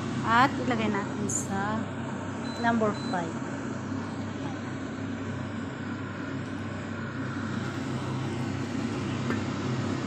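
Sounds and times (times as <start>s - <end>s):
induction hob humming and rushing: 0.0s - 10.0s.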